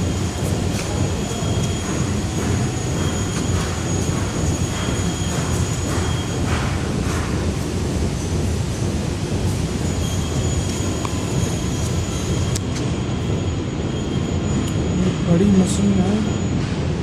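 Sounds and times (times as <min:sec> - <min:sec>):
heavy mechanical rumble: 0:00.0 - 0:17.0
thin high whine: 0:00.0 - 0:17.0.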